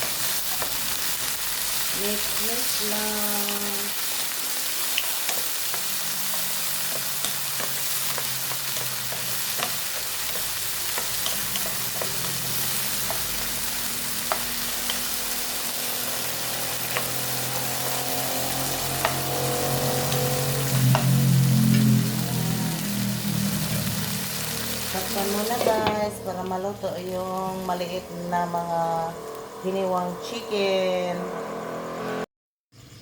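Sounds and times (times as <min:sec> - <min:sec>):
chicken sizzling in oil: 0:00.0 - 0:27.9.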